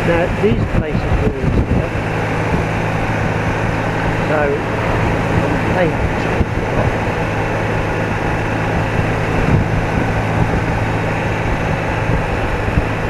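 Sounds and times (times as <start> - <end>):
motorcycle engine cruising: 0.0 - 13.0
wind noise on microphone: 0.0 - 13.0.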